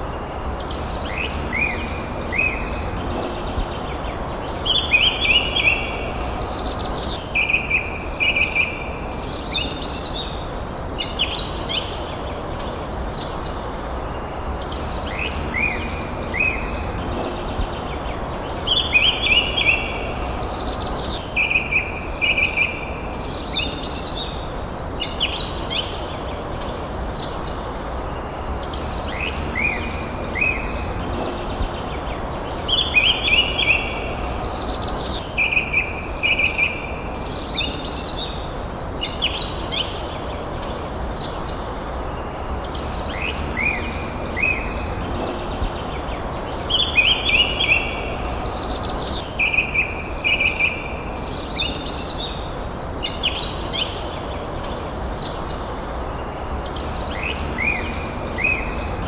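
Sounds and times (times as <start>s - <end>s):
forest birds singing: 0.0s - 59.0s
steady low background rumble: 0.0s - 59.0s.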